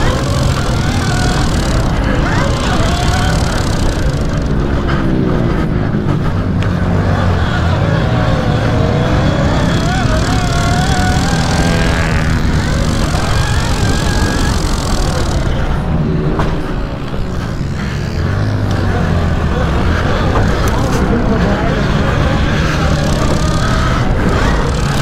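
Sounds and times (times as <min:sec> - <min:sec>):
small motorbike engines revving: 0:00.0 - 0:25.0.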